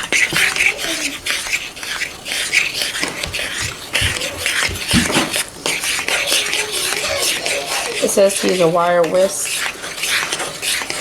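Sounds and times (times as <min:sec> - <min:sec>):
spoon scraping mixing bowl: 0:00.0 - 0:11.0.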